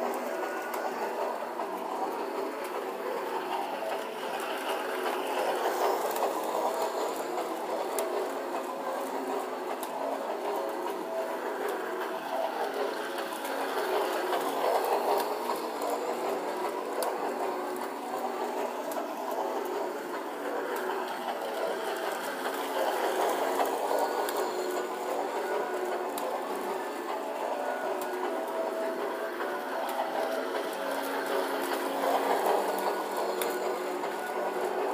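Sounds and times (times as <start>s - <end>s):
toy train motor whirring: 0.0s - 34.9s
toy train wheels clattering: 0.0s - 34.9s.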